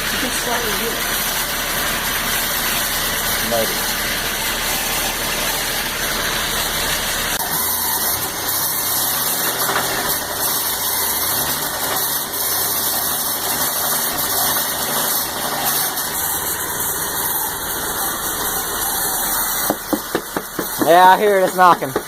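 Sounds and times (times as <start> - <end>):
car engine running: 0.0 - 22.0
engine knocking: 0.0 - 22.0.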